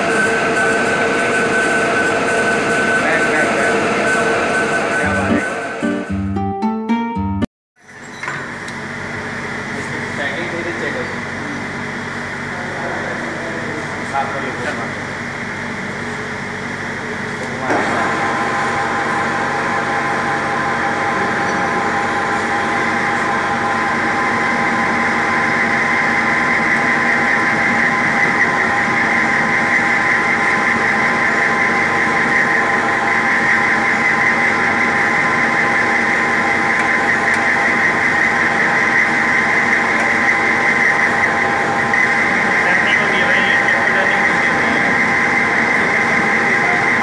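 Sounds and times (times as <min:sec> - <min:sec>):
lathe whining: 0:00.0 - 0:06.0, 0:07.9 - 0:47.0.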